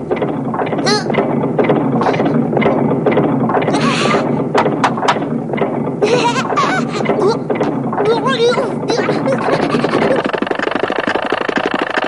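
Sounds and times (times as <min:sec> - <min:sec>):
squeaky pitched sounds: 0:00.0 - 0:12.0.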